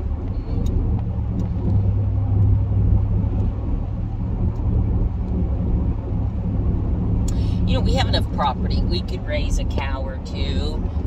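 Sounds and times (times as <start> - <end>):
road and engine rumble in vehicle: 0.0 - 11.0.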